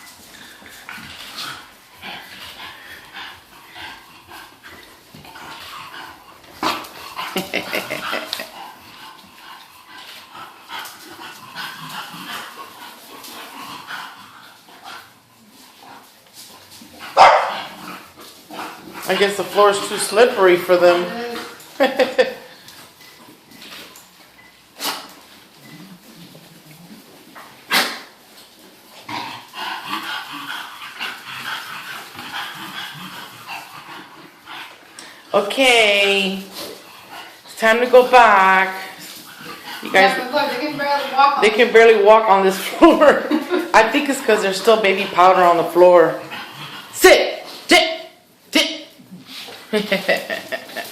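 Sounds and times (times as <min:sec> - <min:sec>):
puppies grunting and whining: 0:00.0 - 0:35.3, 0:35.9 - 0:47.5.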